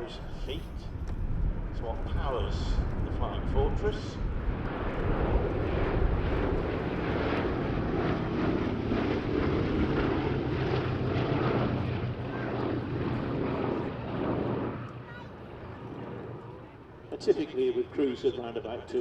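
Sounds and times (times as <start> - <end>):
propeller aircraft engines drone: 0.0 - 19.0.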